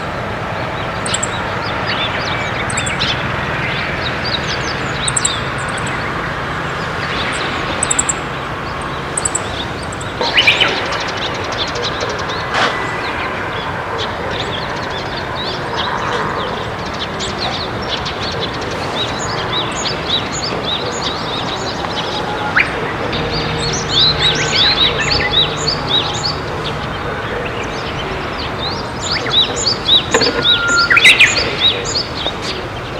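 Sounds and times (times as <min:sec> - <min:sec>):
songbirds chirping and singing: 0:00.0 - 0:32.9.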